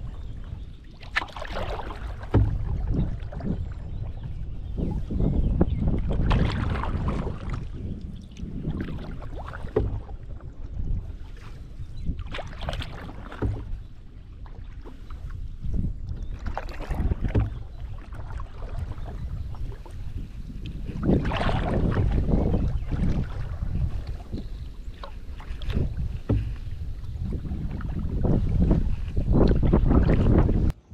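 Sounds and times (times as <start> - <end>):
paddle strokes in water: 0.0 - 30.8
wind on microphone: 0.0 - 30.9.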